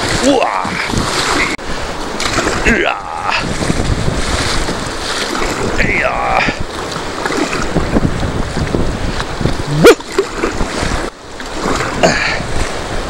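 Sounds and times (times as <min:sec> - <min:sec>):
river rapids splashing: 0:00.0 - 0:13.0
wind buffeting microphone: 0:00.0 - 0:13.0.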